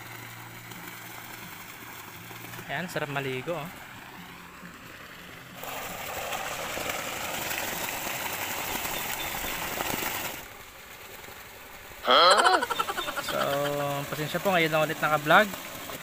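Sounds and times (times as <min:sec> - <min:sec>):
water splashing into pool: 0:00.0 - 0:02.8, 0:03.7 - 0:16.0
faint outdoor ambience: 0:00.0 - 0:15.5.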